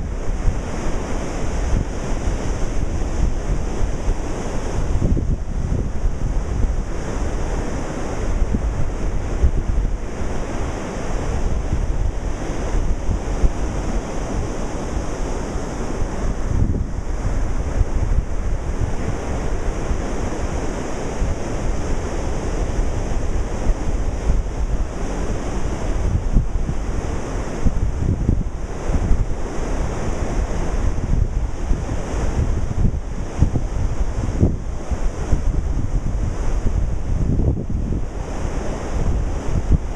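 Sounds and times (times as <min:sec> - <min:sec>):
ocean waves surf: 0:00.0 - 0:39.9
wind rumbling on microphone: 0:00.0 - 0:39.9.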